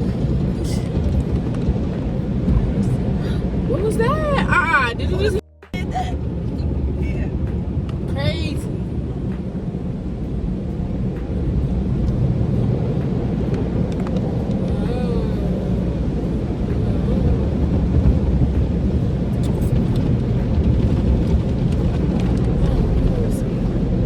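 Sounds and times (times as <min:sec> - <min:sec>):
car wash machinery rumbling: 0:00.0 - 0:24.0.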